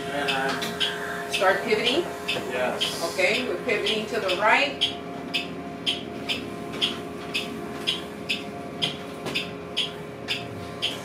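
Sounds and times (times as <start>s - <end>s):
sharp regular ticking: 0.2s - 11.0s.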